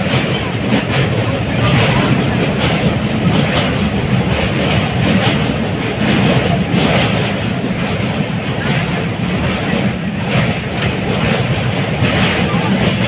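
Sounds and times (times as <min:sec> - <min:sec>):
train rumbling: 0:00.0 - 0:13.0
wheel clatter: 0:00.0 - 0:13.0.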